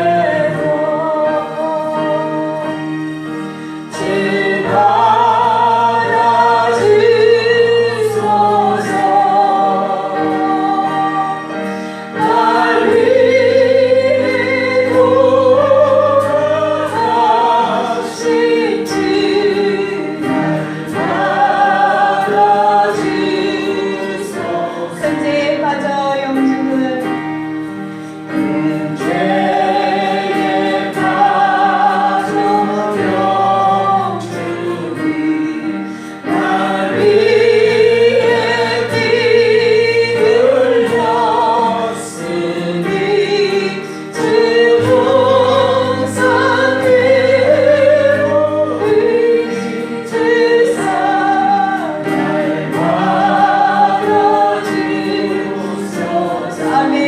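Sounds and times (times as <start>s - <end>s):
congregation singing a hymn: 0.0s - 57.0s
sustained instrumental accompaniment: 0.0s - 57.0s.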